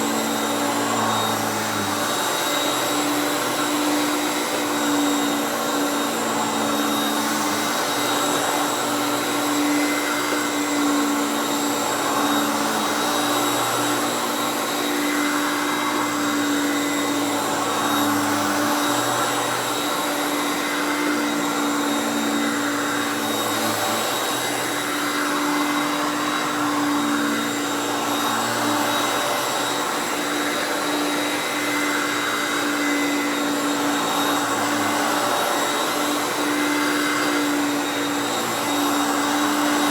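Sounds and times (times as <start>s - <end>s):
upright vacuum running: 0.0s - 39.9s.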